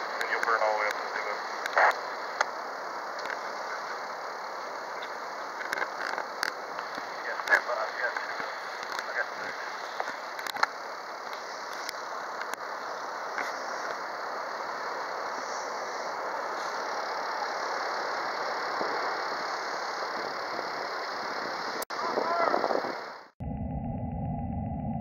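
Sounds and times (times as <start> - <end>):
fire engine idling: 1.0 - 21.8.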